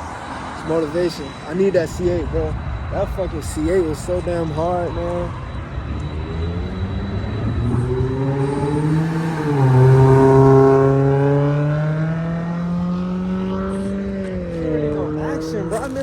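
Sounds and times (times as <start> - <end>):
car engine accelerating: 2.1 - 16.0.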